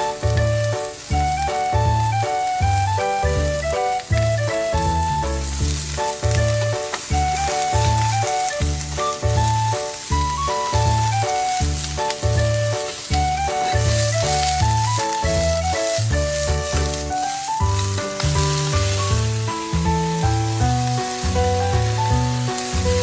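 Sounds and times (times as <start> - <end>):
background music with bass line: 0.0 - 23.0
food sizzling in a frying pan: 0.0 - 23.0.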